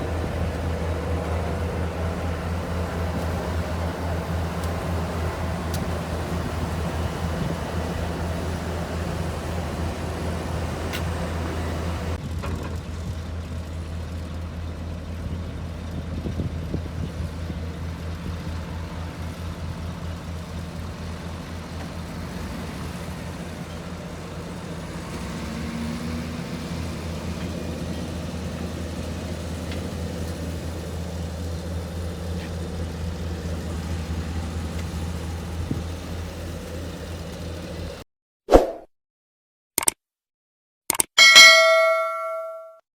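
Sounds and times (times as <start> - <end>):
road noise: 0.0 - 38.0
vehicle engines rumbling: 0.0 - 38.0.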